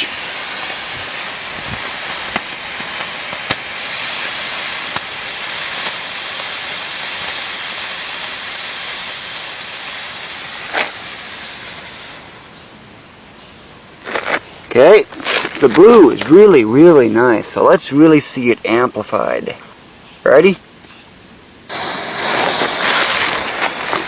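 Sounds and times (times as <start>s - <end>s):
smoke firework hissing: 0.0s - 18.5s, 21.7s - 24.0s.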